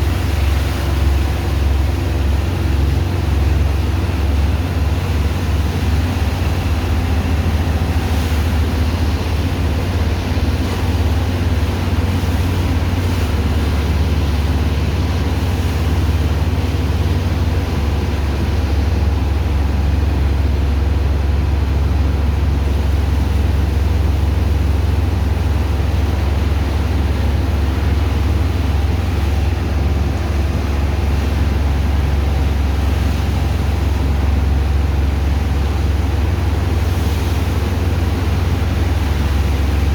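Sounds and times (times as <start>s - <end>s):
heavy pump engine droning: 0.0s - 39.9s.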